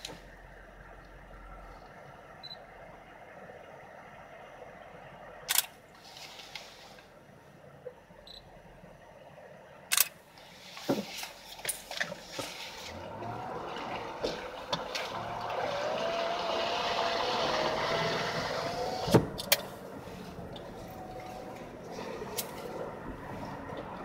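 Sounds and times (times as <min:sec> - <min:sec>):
tyres on snowy road: 0:00.0 - 0:24.0.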